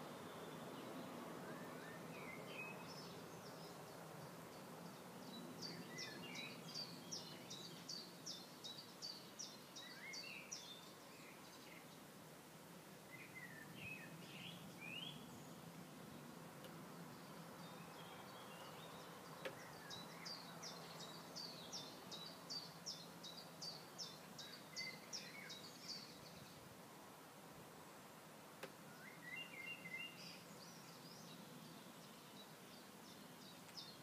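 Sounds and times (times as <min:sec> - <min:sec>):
bird chirping: 0:00.0 - 0:12.1, 0:13.0 - 0:26.8, 0:27.8 - 0:34.0.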